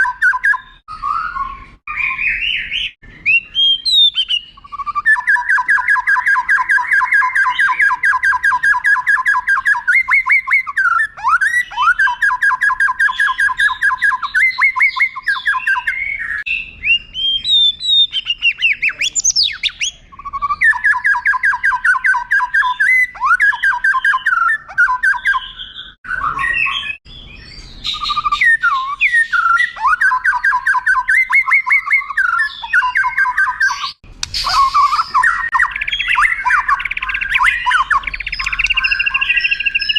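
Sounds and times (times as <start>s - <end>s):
songbird trilling and whistling: 0.0s - 39.9s.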